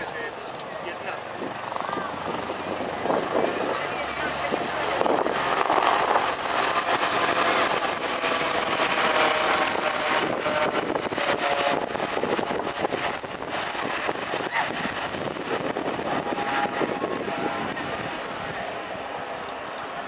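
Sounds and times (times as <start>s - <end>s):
helicopters flying overhead: 0.0s - 20.0s.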